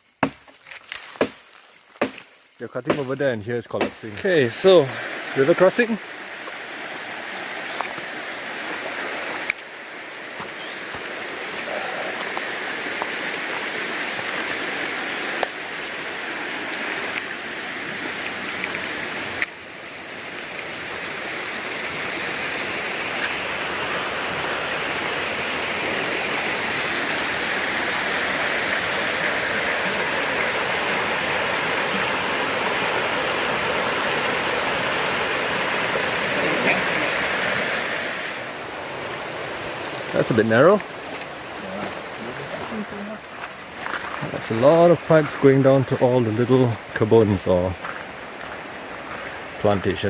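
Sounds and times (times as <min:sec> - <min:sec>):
river water rushing: 0:04.0 - 0:50.0.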